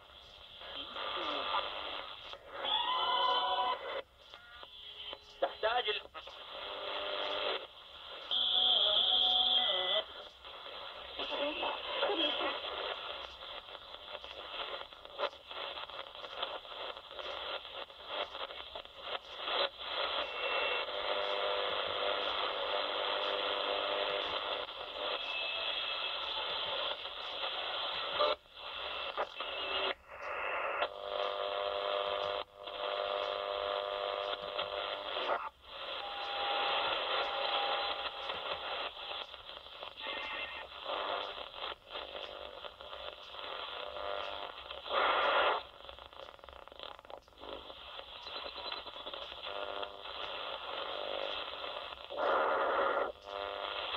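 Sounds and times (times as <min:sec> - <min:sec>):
radio static hiss: 0:00.0 - 0:53.9.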